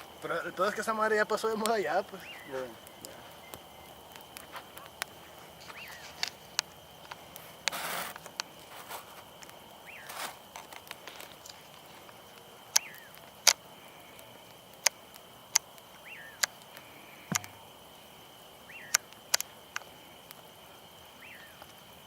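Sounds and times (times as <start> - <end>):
campfire crackling and popping: 0.0 - 22.0
high insect drone: 0.0 - 22.0.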